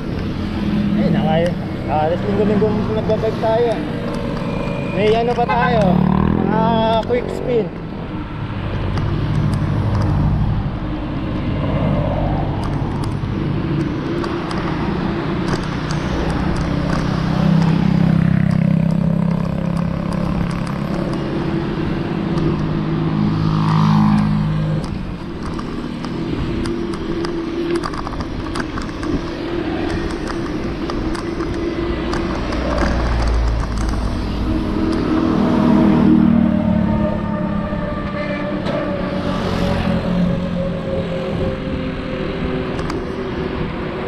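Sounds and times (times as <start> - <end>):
vehicle engine humming: 0.0 - 44.0
wind and road noise: 0.0 - 44.0.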